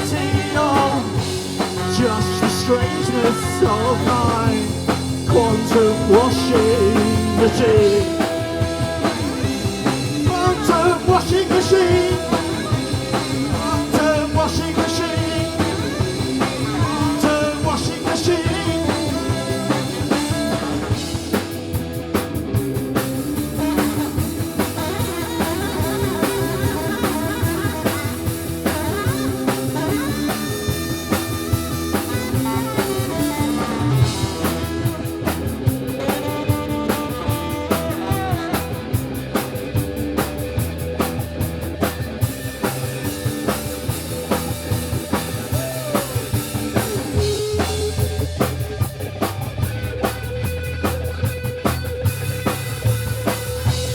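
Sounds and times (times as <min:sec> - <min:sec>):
drum kit beat: 0:00.0 - 0:53.9
rock band playing instrumental: 0:00.0 - 0:53.9.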